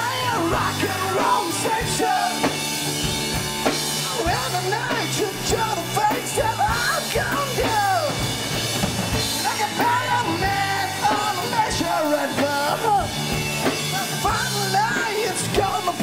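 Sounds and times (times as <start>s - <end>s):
singer singing and shouting: 0.0s - 2.9s, 3.9s - 16.0s
bass guitar: 0.0s - 16.0s
drum kit: 0.0s - 16.0s
electric guitars: 0.0s - 16.0s.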